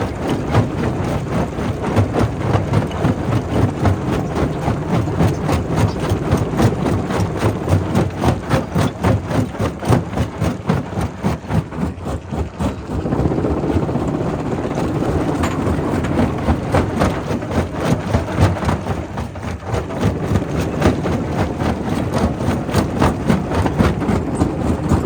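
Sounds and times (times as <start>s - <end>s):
rock crusher rumbling: 0.0s - 25.0s
knocking and rattling: 0.2s - 25.0s.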